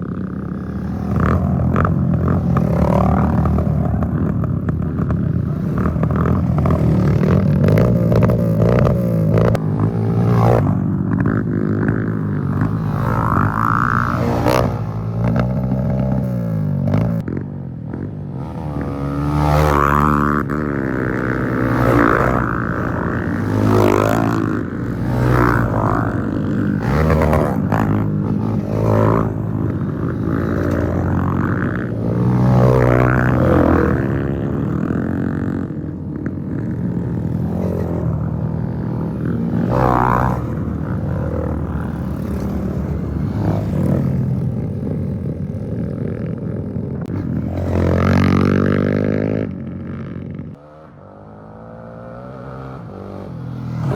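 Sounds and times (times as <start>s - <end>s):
dirt bikes riding past revving: 0.0s - 53.9s.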